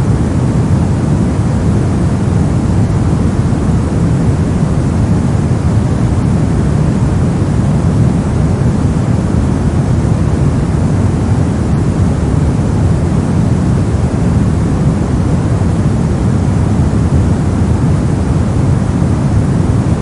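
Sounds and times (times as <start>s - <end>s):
deep rushing white noise: 0.0s - 20.0s.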